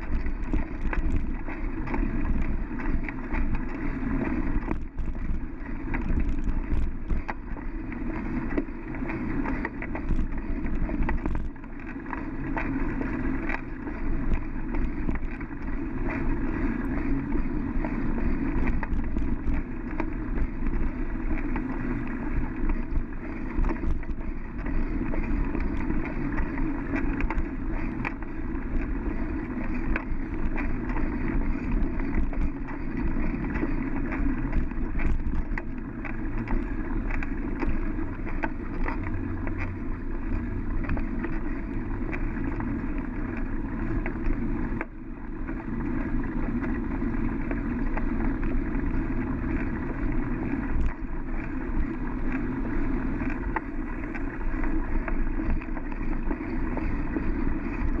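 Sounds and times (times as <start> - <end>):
bicycle tyres and wind rumbling: 0.0 - 58.0.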